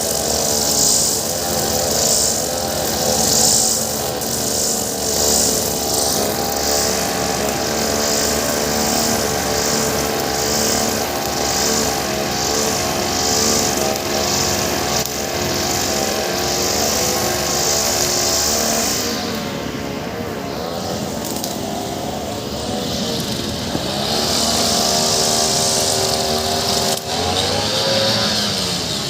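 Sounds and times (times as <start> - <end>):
brush cutter running: 0.0 - 29.0
cutting head hissing through grass: 0.0 - 29.0.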